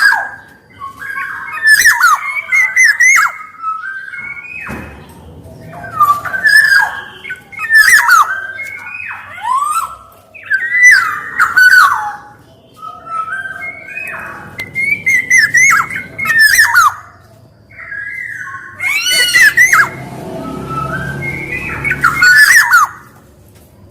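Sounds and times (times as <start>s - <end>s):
bird singing fluty whistles: 0.0s - 4.9s, 5.6s - 23.1s.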